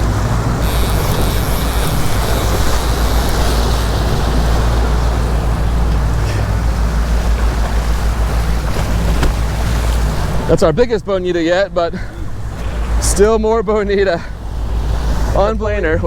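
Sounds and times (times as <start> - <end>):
boat engine running: 0.0 - 16.0
water rushing past hull: 0.0 - 16.0
wind: 0.0 - 16.0.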